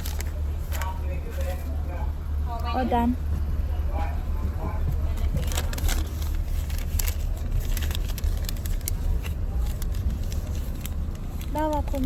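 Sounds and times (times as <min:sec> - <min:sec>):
car rumble: 0:00.0 - 0:12.0.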